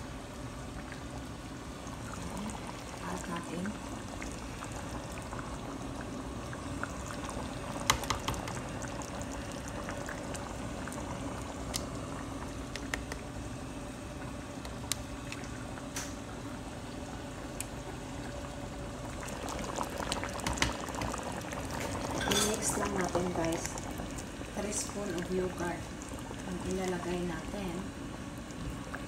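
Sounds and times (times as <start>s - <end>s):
faint steady hum: 0.0s - 29.0s
sauce bubbling in a pan: 0.0s - 29.0s.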